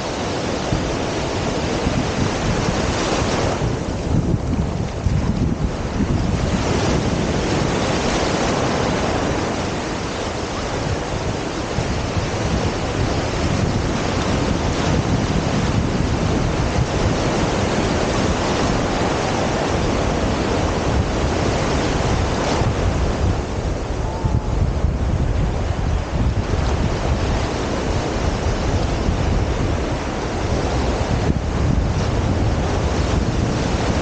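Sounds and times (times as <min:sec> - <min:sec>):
small waves washing up shore: 0:00.0 - 0:34.0
wind buffeting microphone: 0:00.0 - 0:34.0.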